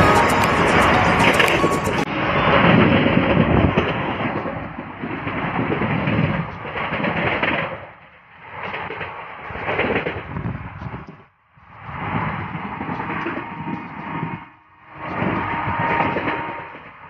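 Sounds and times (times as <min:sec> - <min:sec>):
train rumbling at speed: 0:00.0 - 0:17.0.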